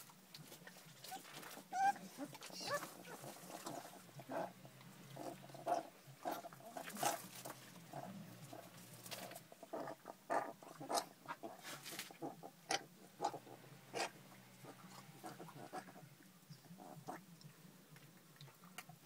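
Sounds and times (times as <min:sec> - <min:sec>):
puppies grunting and squeaking: 0:00.7 - 0:17.5.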